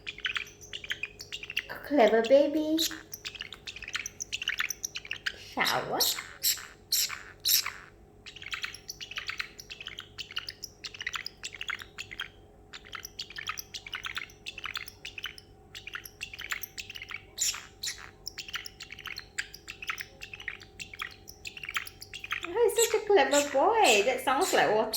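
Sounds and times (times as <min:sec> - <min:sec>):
bird hissy chirps and clicks: 0:00.0 - 0:24.9.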